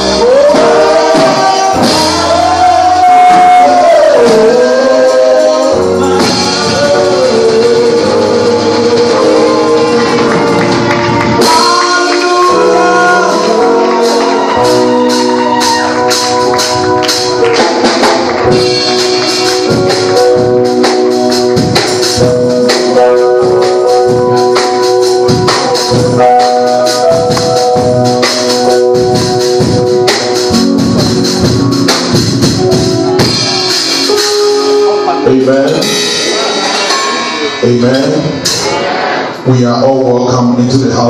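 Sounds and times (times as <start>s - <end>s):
steady beat: 0.0s - 39.2s
organ chords: 0.0s - 41.0s.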